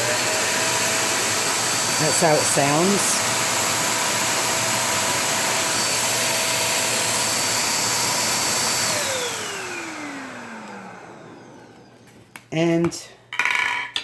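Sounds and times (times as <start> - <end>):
vacuum motor spinning down: 0.0 - 12.2
handheld vacuum cleaner running: 0.0 - 12.4.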